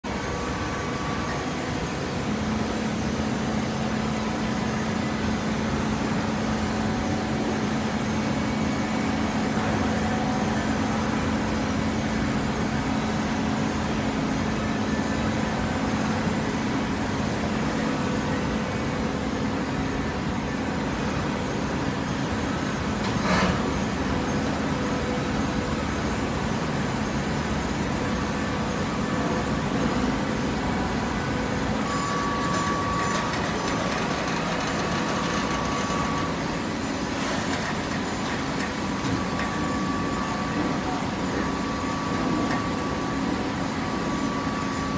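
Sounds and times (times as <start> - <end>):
constant machine hum: 0.0 - 44.9
hydraulic baler running: 0.1 - 44.9.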